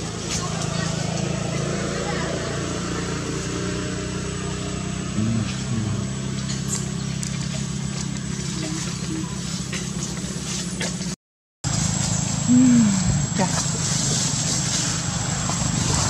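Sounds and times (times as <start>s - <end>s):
low motor hum: 2.9s - 16.0s.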